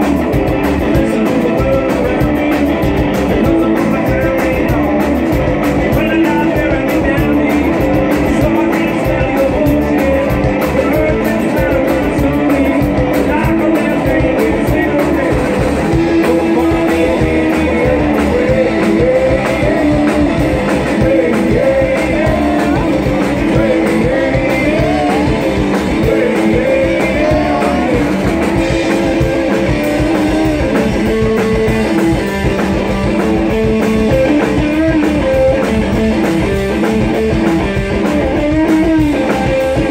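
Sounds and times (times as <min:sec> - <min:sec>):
live rock and roll band: 0:00.0 - 0:39.9.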